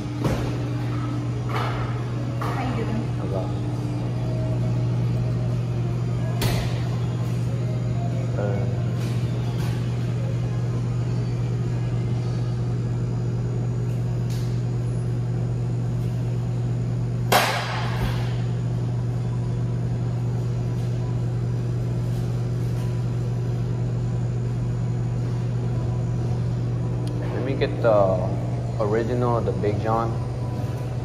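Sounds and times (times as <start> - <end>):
ventilation hum: 0.0 - 31.0.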